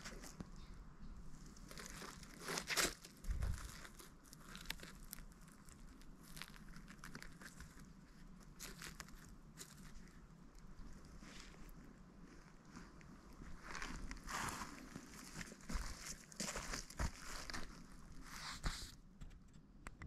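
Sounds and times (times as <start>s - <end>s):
leaves and twigs rustling: 0.0s - 19.0s.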